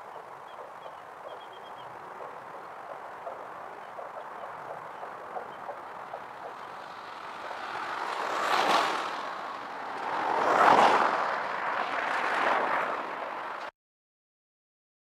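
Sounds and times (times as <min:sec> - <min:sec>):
vehicles passing by: 0:00.0 - 0:13.7.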